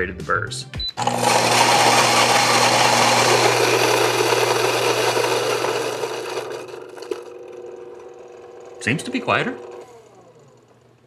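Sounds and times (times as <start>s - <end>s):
coffee grinder motor humming: 1.0s - 11.0s.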